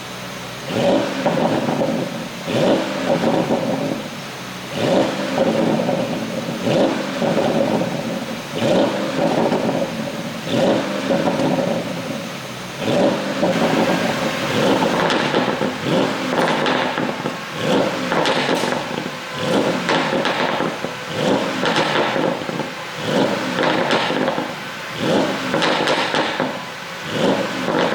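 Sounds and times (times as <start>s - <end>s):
car exhaust revving: 0.0s - 27.9s
exhaust popping and crackling: 0.0s - 27.9s.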